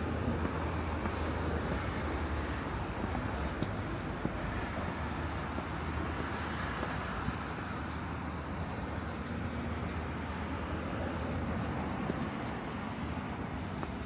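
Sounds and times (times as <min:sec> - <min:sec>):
low rumbling street noise: 0:00.0 - 0:14.0.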